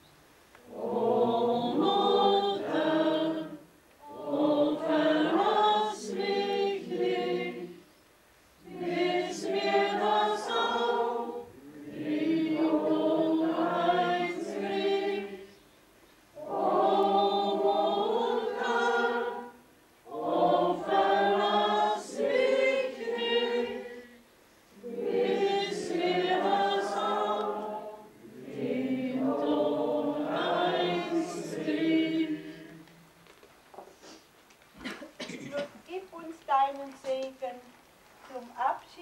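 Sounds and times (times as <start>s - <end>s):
group singing a hymn: 0.6s - 8.0s, 8.6s - 33.2s.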